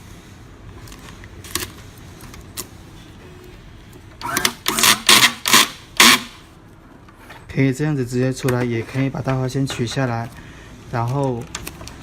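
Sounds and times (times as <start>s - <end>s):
harsh tape handling noise: 0.7s - 12.0s.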